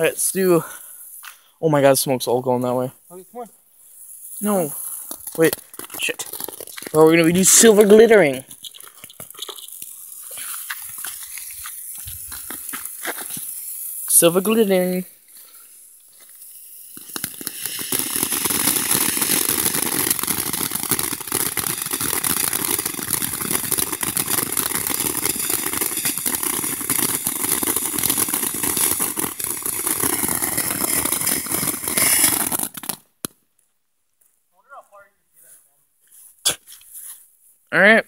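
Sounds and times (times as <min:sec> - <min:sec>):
firework fountain crackling hiss: 0:00.0 - 0:02.1, 0:03.1 - 0:33.3.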